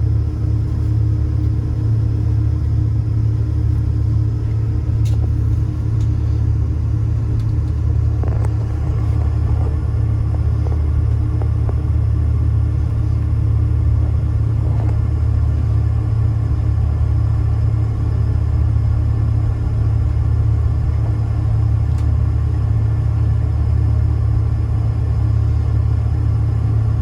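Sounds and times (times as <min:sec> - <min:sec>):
jet engines low rumble in cabin: 0:00.0 - 0:27.0.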